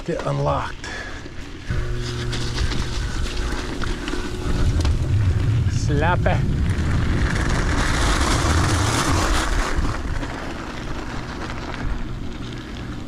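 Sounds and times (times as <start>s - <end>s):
bike tyres crunching on gravel: 0.0s - 13.0s
wind rumble on microphone: 1.7s - 13.0s.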